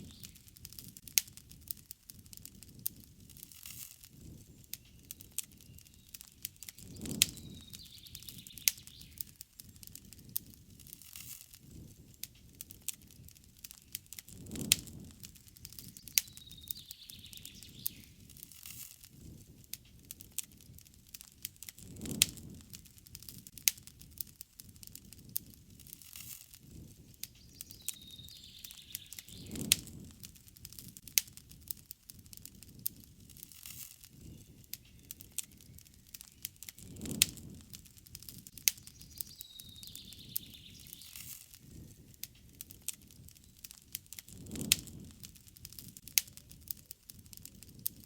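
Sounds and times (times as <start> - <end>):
low rush of flame: 0.0 - 48.0
wood fire crackling and popping: 0.0 - 48.0.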